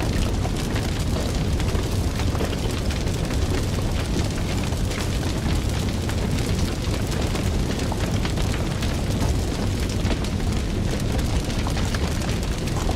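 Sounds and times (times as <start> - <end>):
fire roaring with crackles: 0.0 - 12.9.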